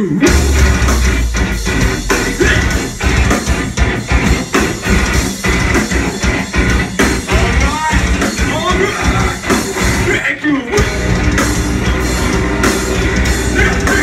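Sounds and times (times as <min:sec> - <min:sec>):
live metal band playing: 0:00.0 - 0:14.0.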